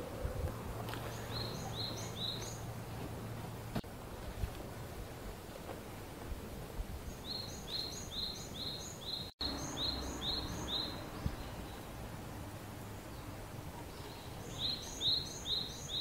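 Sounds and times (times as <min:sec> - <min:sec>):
low outdoor background hum: 0:00.0 - 0:16.0.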